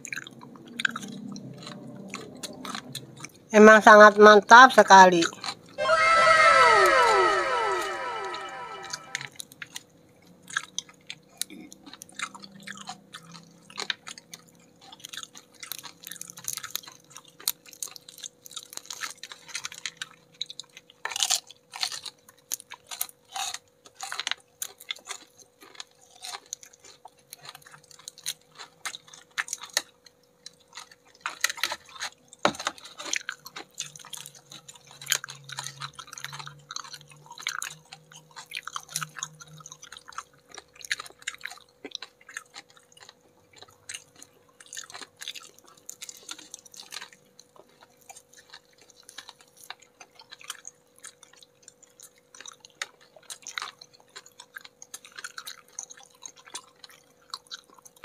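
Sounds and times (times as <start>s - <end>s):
crunching fried chicken: 0.0s - 58.0s.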